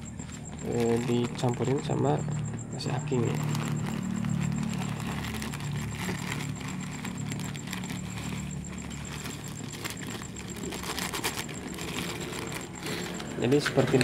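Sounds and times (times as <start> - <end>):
steady low hum: 0.0 - 14.0
plastic bag crinkling: 0.2 - 14.0.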